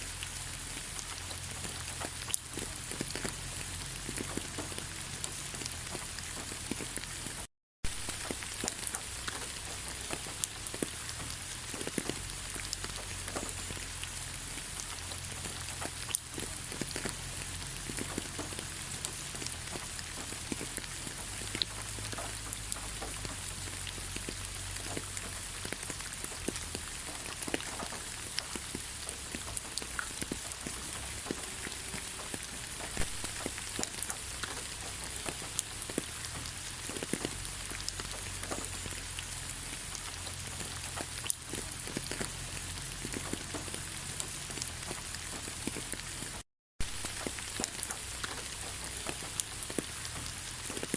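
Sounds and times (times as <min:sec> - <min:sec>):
rain drops pattering: 0:00.0 - 0:50.9.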